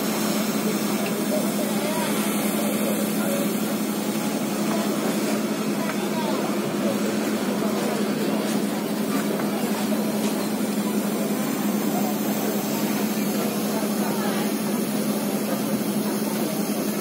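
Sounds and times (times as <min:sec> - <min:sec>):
crowd chatter: 0:00.0 - 0:17.0
heavy rain hiss: 0:00.0 - 0:17.0.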